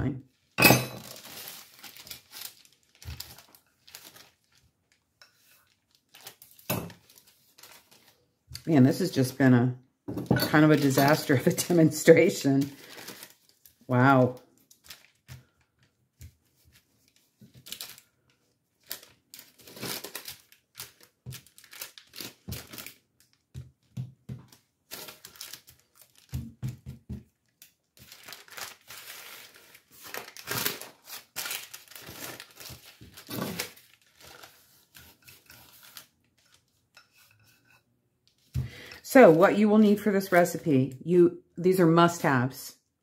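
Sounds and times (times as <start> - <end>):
parchment paper crinkling: 0.4 - 9.3, 10.6 - 37.6, 38.3 - 40.7.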